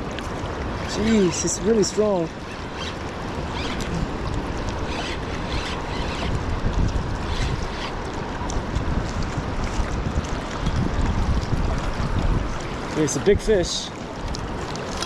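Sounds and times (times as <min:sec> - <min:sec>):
water washing around kayak: 0:00.0 - 0:15.0
wind buffeting microphone: 0:00.0 - 0:15.0.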